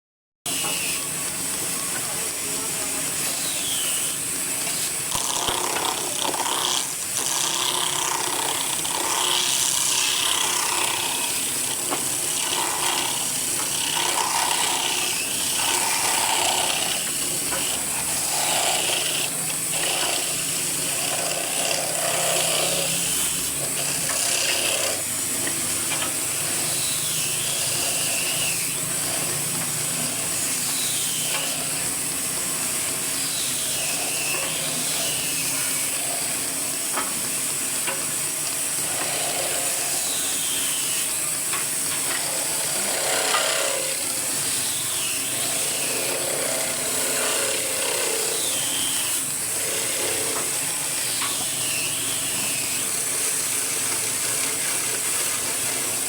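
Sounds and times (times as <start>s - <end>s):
woodworking tools working wood: 0.5s - 56.0s.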